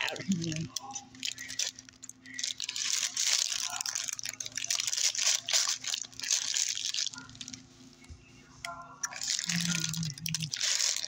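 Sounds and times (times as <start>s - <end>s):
paper wrapping crinkling: 0.0s - 8.0s, 9.0s - 11.0s.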